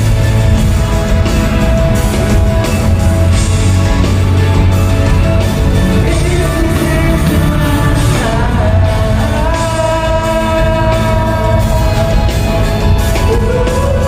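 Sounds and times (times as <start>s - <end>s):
live rock band playing: 0.0s - 14.0s
singer holding long notes: 0.0s - 14.0s.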